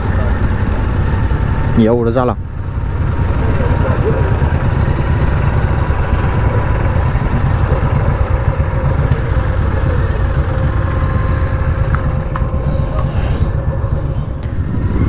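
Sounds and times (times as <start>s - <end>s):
faint steady whine: 0.0s - 15.0s
motorcycle engine running: 0.0s - 15.0s.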